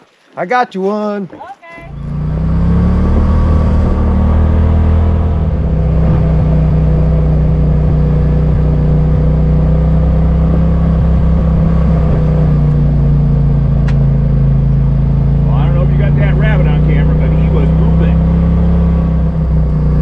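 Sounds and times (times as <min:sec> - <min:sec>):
vehicle engine droning: 0:01.7 - 0:20.0.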